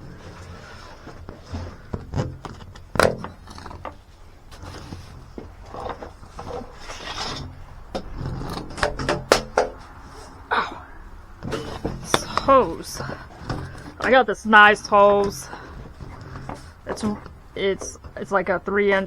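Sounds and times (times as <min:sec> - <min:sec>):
equipment knocking and scraping: 0:00.0 - 0:19.0.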